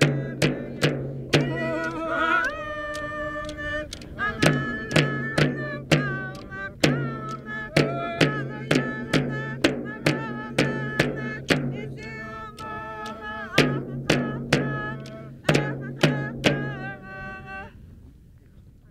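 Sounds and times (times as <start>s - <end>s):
frame drums beating: 0.0s - 17.0s
group singing: 0.0s - 17.7s.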